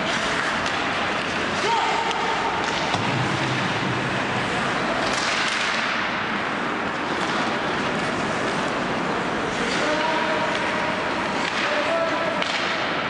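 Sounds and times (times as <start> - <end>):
hockey game background noise: 0.0 - 13.0.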